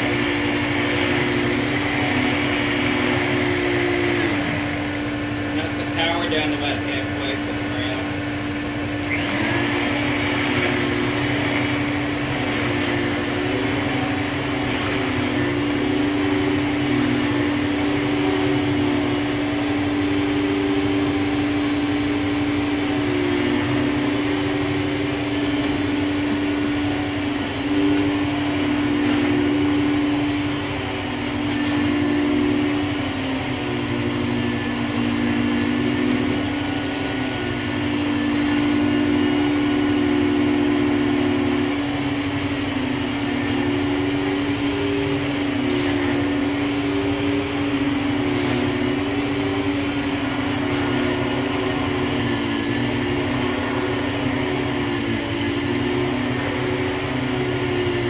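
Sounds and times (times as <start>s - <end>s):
vacuum cleaner motor hum: 0.0s - 58.0s.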